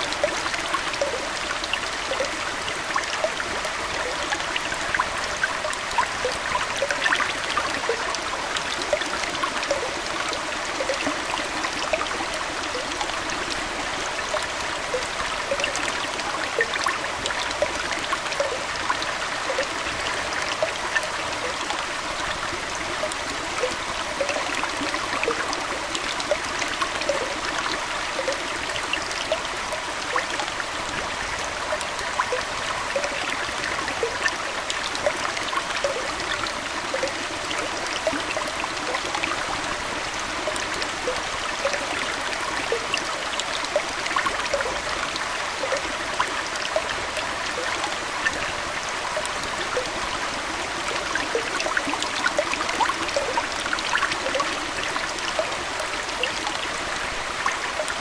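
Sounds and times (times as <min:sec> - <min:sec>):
aquarium water trickling: 0:00.0 - 0:58.0.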